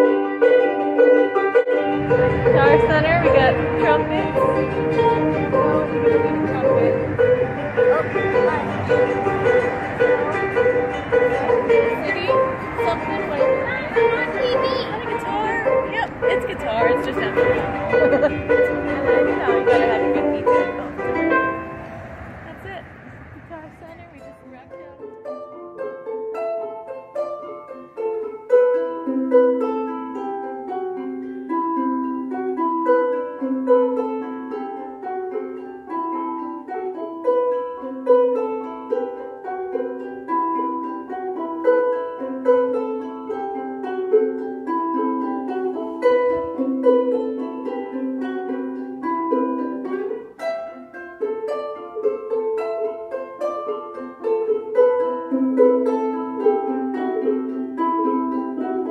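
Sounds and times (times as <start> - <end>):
ukuleles playing picked tune: 0.0 - 58.9.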